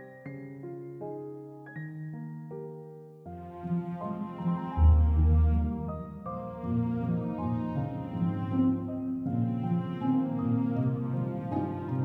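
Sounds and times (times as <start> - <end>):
instrumental background music: 2.2 - 12.0.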